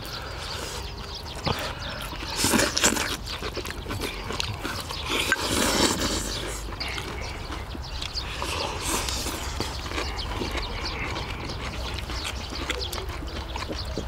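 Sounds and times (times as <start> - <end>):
chewing and slurping food: 0.0 - 14.0.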